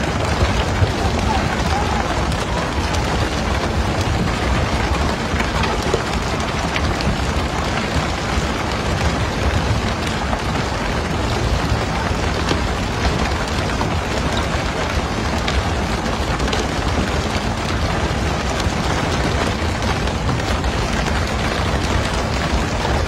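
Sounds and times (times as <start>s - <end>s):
boat engine: 0.0s - 23.0s.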